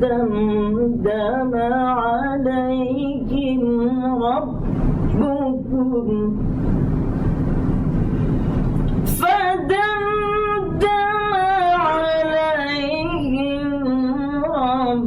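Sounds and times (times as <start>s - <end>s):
woman reciting melodically: 0.0s - 6.6s, 9.1s - 15.0s
low noisy rumble: 0.0s - 15.0s.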